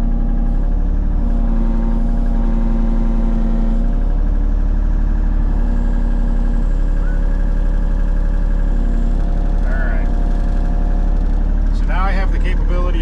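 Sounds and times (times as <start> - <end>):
excavator diesel engine running: 0.0 - 13.0
hydraulic whining tone: 0.0 - 13.0.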